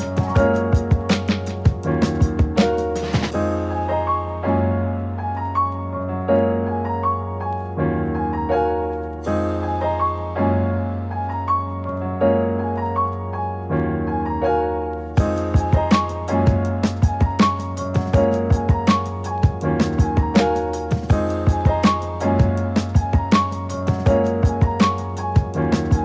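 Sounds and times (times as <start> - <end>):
instrumental background music: 0.0 - 26.0.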